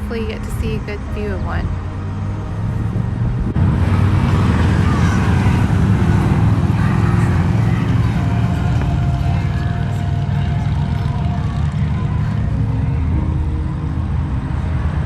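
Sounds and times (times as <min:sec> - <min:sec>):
faint gliding whine: 0:00.0 - 0:15.0
vehicle traffic rumble: 0:00.0 - 0:15.0.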